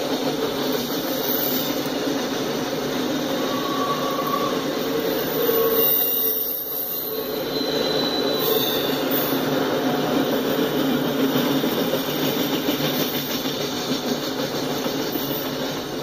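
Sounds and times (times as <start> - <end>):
steel wheels running on rails: 0.0 - 16.0.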